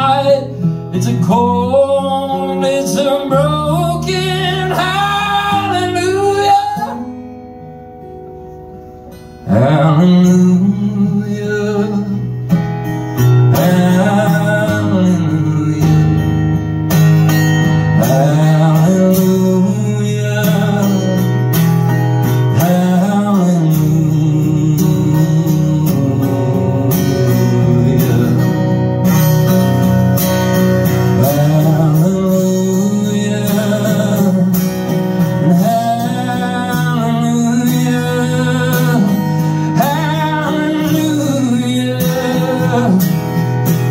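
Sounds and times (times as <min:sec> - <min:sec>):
man singing: 0:00.0 - 0:07.4, 0:09.4 - 0:12.6, 0:13.2 - 0:16.6, 0:17.7 - 0:29.1, 0:31.0 - 0:43.9
acoustic guitar: 0:00.0 - 0:43.9.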